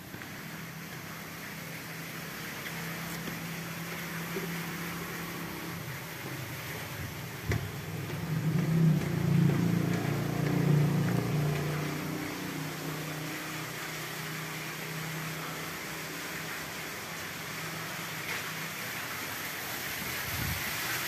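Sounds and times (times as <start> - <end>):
low engine hum: 0.0 - 20.7.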